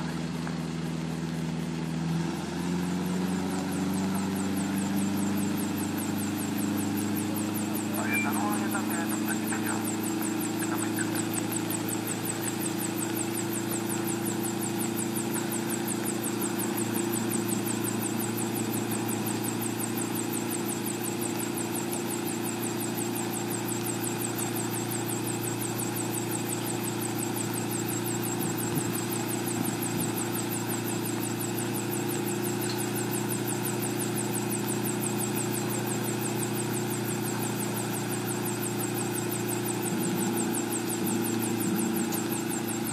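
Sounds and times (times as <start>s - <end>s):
helicopter engine and rotor running: 0.0s - 42.9s.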